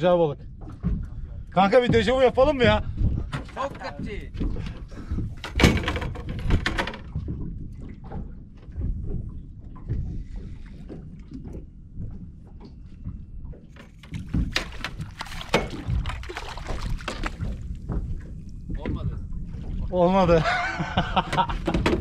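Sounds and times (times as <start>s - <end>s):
knocks and clatters on boat: 0.0s - 22.0s
low rumble of water and wind: 0.0s - 22.0s.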